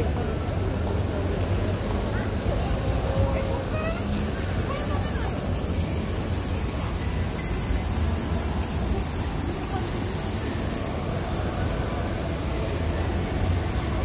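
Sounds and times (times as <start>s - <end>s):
high hiss: 0.0s - 14.0s.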